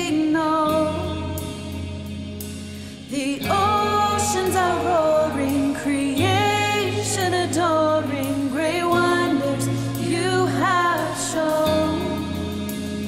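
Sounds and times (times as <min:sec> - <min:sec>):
worship song with band: 0:00.0 - 0:13.0.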